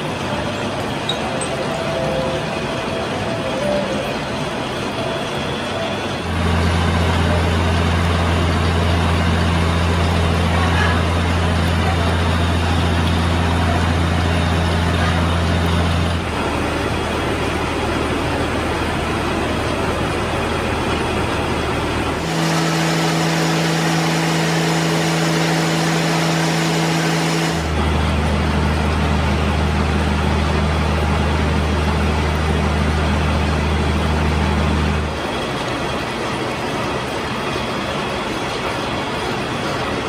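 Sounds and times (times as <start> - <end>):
machine mechanical hum: 0.0 - 40.0.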